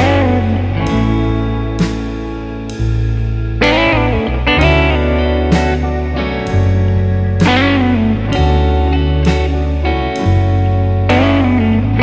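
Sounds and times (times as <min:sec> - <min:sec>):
sustained bass: 0:00.0 - 0:12.0.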